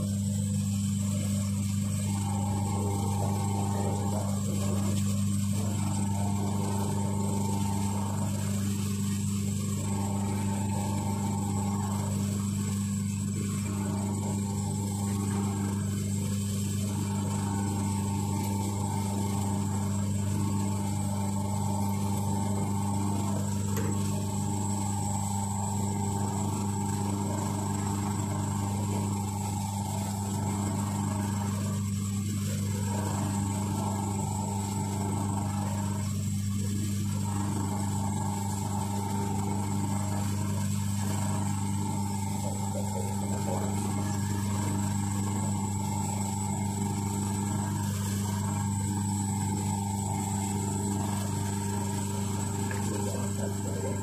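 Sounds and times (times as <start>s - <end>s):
electric motor humming: 0.0s - 54.0s.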